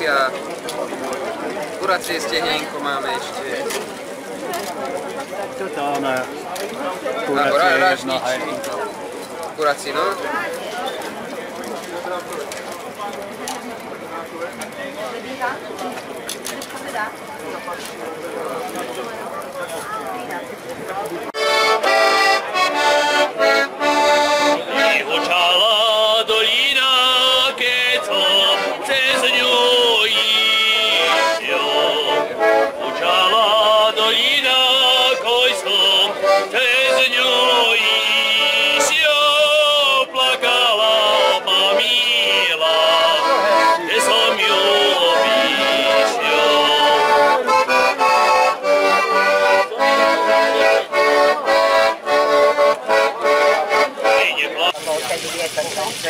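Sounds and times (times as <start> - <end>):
accordion playing folk tune: 0.0 - 12.5, 21.0 - 54.9.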